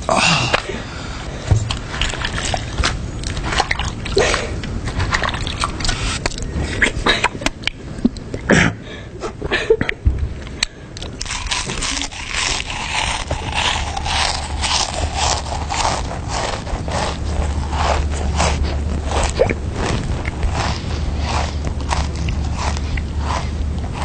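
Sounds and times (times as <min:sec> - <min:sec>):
chewing and crunching food: 0:01.5 - 0:08.4, 0:10.5 - 0:24.0.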